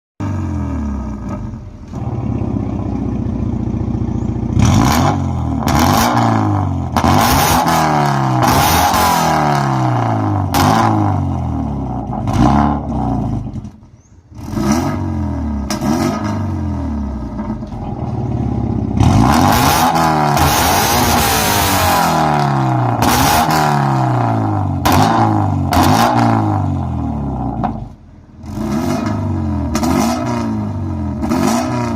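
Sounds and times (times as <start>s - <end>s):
car engine revving: 0.2s - 31.9s.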